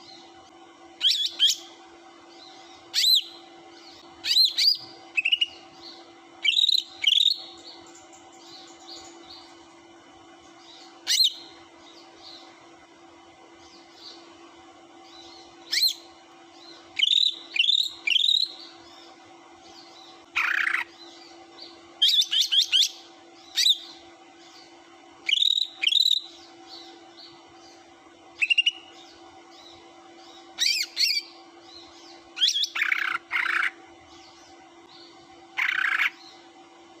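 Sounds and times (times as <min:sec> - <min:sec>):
faint steady hum: 0:00.0 - 0:37.0
bird song whistles and chatter: 0:01.0 - 0:01.8, 0:02.4 - 0:09.6, 0:10.6 - 0:12.5, 0:15.0 - 0:27.8, 0:28.4 - 0:36.4.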